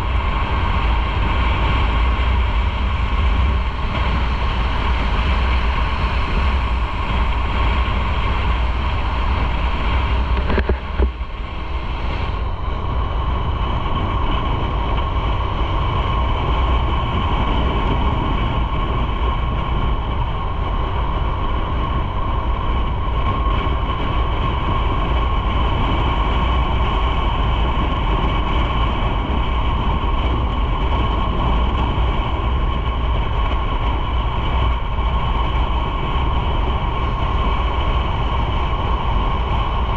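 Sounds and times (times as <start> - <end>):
motorcycle engine drone: 0.0 - 39.9
wind and road rumble: 0.0 - 39.9.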